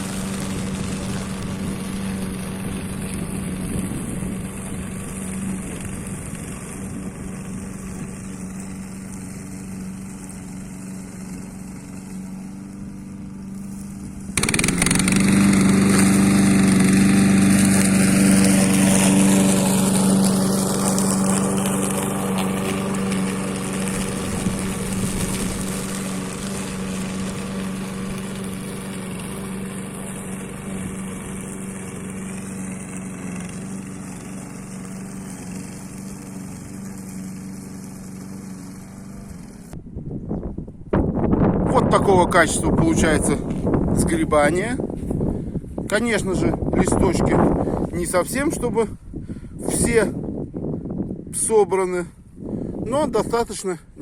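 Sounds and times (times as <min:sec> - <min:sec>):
lawn mower engine mulching leaves: 0:00.0 - 0:54.0.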